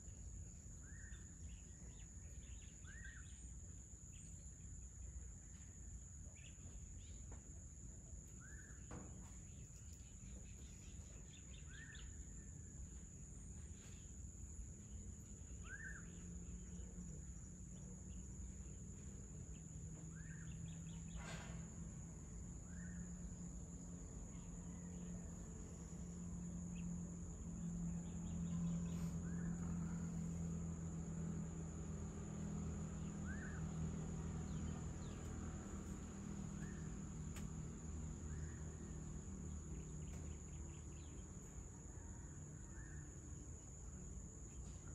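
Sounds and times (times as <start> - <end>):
bird chirping: 0.0 - 7.5, 8.2 - 21.6, 22.4 - 44.9
low steady hum: 0.0 - 44.9.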